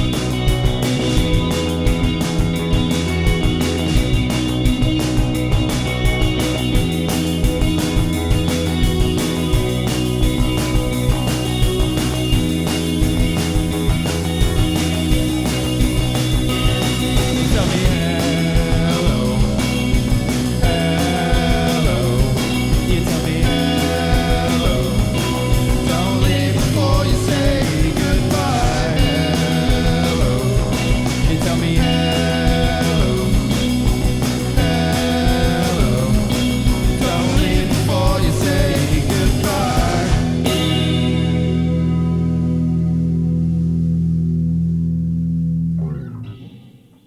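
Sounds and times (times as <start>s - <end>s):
band playing rock music: 0.0s - 44.0s
steady drums: 0.0s - 44.0s.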